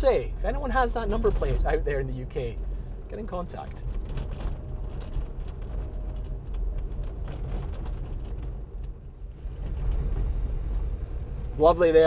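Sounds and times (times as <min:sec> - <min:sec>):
engine and road drone: 0:00.0 - 0:12.0
light rattles and clicks: 0:00.9 - 0:10.6.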